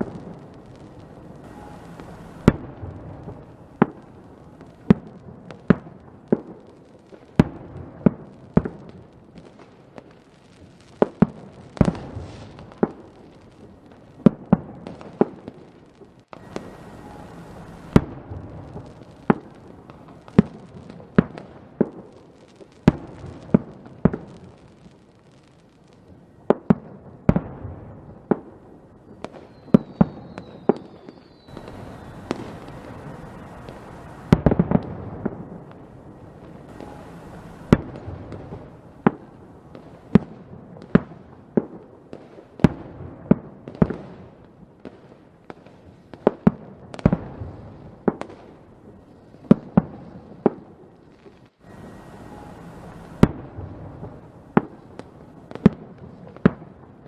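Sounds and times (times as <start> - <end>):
fireworks bangs: 0.0 - 57.0
fireworks crackle: 0.0 - 57.0.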